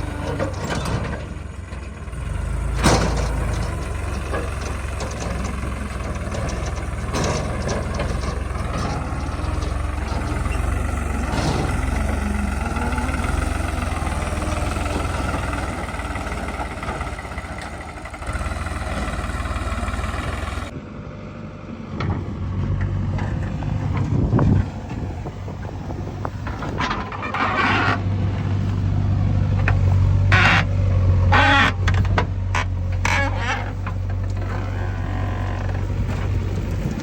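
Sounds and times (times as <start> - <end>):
heavy machinery diesel engines droning: 0.0 - 37.0.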